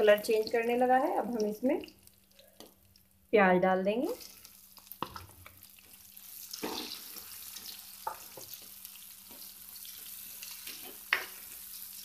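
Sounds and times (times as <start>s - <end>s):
onions sizzling in hot oil: 0.0s - 3.2s, 3.9s - 12.0s.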